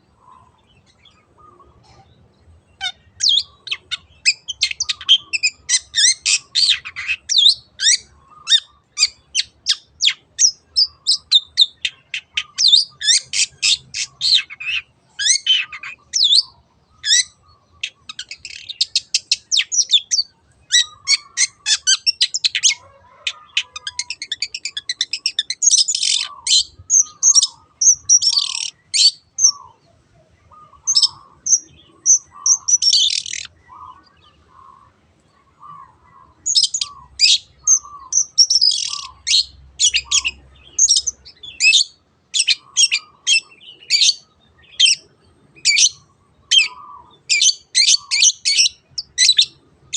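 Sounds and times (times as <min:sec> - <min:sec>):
bird chirping and calling: 0:00.0 - 0:49.9.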